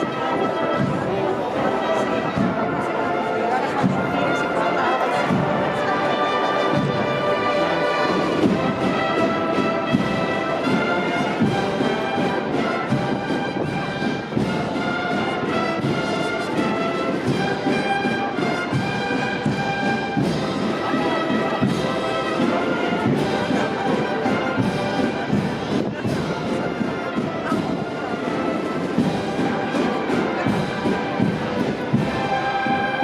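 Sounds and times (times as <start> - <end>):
procession band with brass: 0.0 - 33.0.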